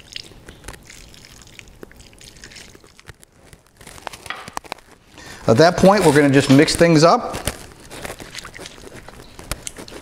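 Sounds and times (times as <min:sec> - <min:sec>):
vinegar trickling onto cucumbers: 0:00.0 - 0:10.0.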